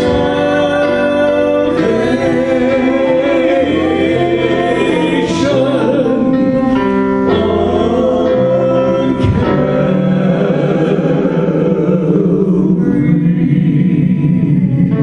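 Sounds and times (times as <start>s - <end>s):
instrumental accompaniment: 0.0s - 15.0s
person singing long notes: 0.0s - 15.0s.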